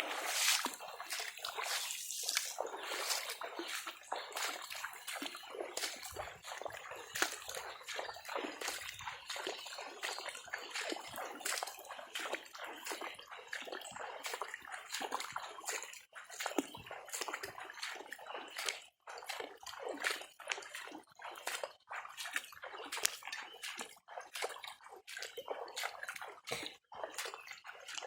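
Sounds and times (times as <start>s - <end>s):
floodwater sloshing and splashing: 0.0s - 28.0s.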